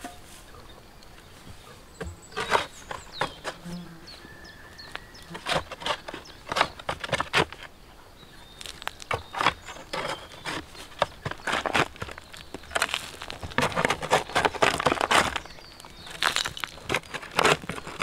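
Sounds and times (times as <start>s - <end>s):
shovel scraping into stony soil: 0.0s - 0.6s, 1.5s - 3.9s, 4.8s - 7.7s, 8.5s - 18.0s.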